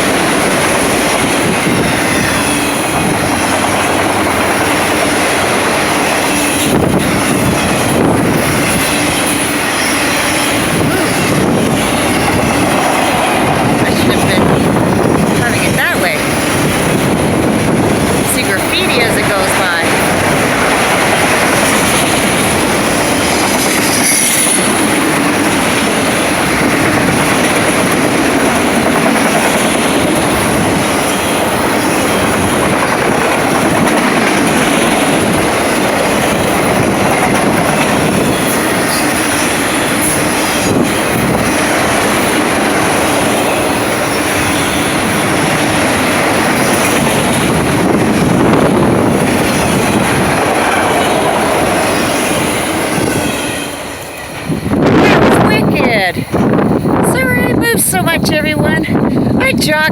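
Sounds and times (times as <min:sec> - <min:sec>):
train wheels rattling on rails: 0:00.0 - 0:59.9.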